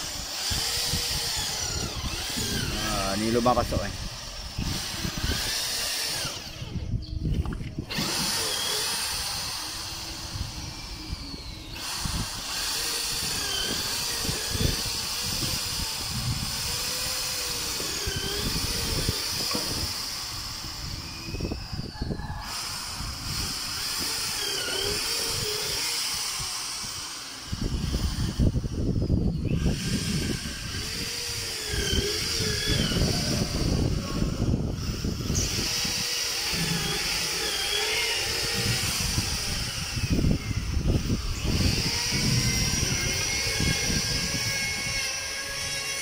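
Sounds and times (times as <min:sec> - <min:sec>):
power drill boring into wood: 0:00.0 - 0:46.0.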